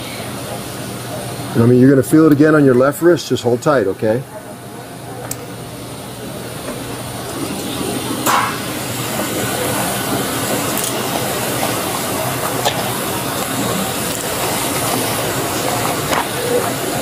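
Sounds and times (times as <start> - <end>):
airport rushing hiss: 0.0 - 17.0.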